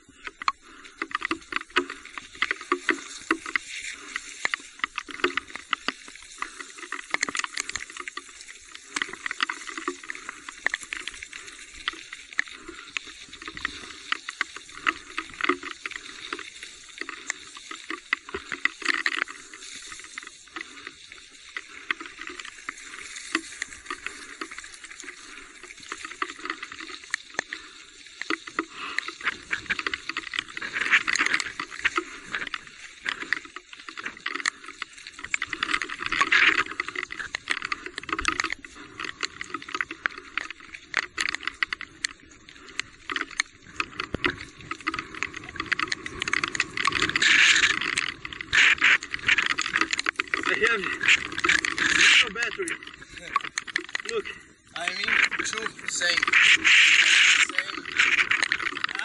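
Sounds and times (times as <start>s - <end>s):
raindrops ticking close by: 0.0s - 59.0s.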